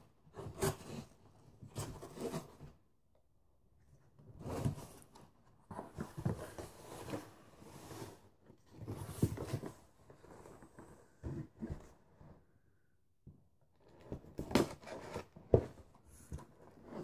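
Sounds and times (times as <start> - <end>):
cardboard scraping and rustling: 0.3 - 2.8, 4.2 - 12.4, 13.8 - 17.0.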